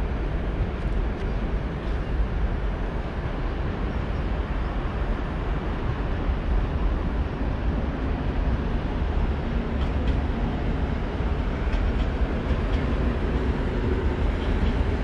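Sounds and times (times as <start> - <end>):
train rumbling at platform: 0.0 - 15.0.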